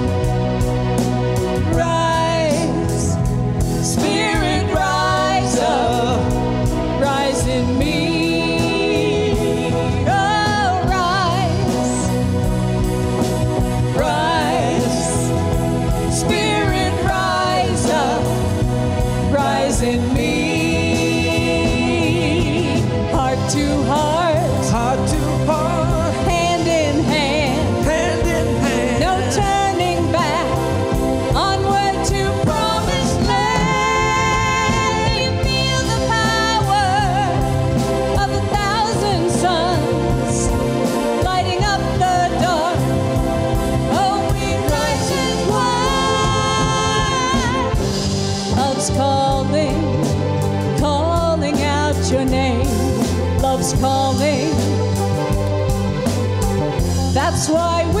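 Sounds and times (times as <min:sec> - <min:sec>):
woman singing lead: 0:00.0 - 0:12.6, 0:13.2 - 0:55.7, 0:56.7 - 0:58.0
drums: 0:00.0 - 0:58.0
keyboard: 0:00.0 - 0:58.0.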